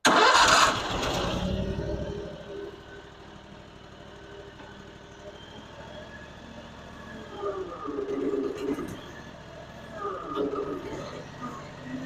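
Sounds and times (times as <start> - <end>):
small engine droning: 0.1 - 12.0.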